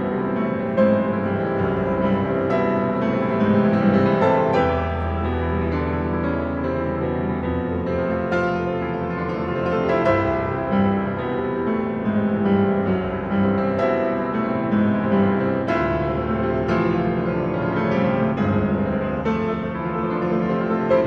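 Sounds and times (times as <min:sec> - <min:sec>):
instrumental piano music: 0:00.0 - 0:21.0.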